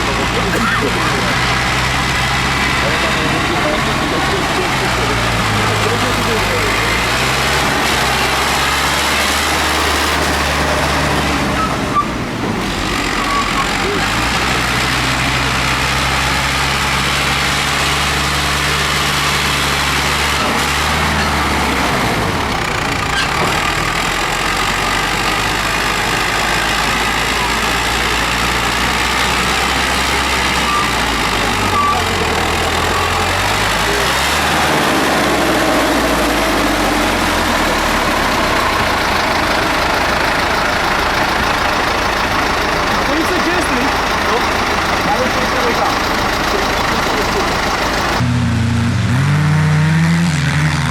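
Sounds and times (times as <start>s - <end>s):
tractor engines idling: 0.0s - 50.9s.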